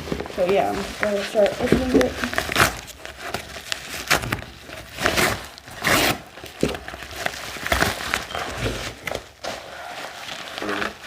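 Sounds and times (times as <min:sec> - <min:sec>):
packaging tearing and crinkling: 0:00.0 - 0:11.0.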